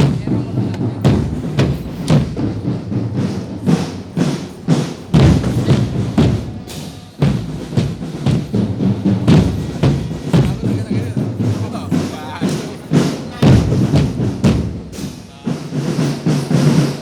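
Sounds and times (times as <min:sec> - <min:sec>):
drums in steady beat: 0:00.0 - 0:17.0.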